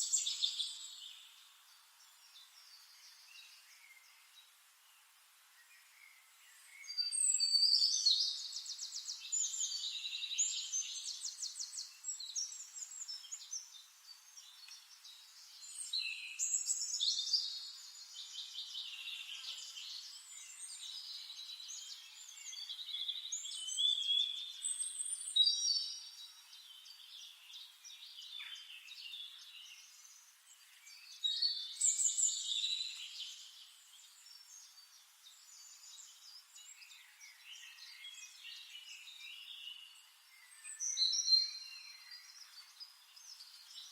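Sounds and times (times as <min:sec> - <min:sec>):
songbirds twittering: 0:00.0 - 0:43.9.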